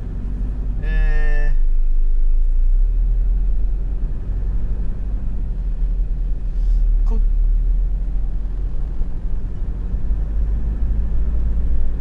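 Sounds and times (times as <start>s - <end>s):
van engine and tyre rumble: 0.0s - 12.0s.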